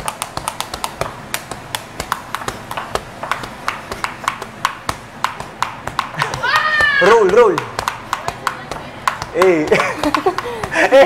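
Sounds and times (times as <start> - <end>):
fast sharp taps: 0.0 - 11.0.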